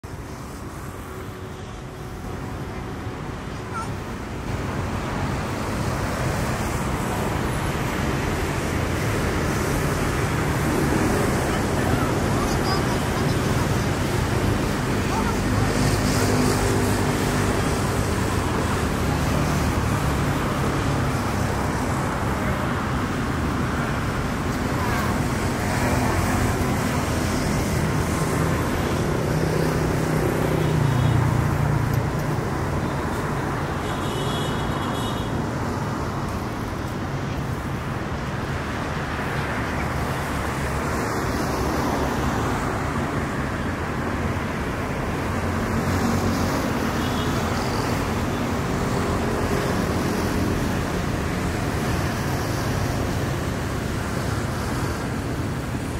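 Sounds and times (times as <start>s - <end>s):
passing vehicles: 0.0s - 55.9s.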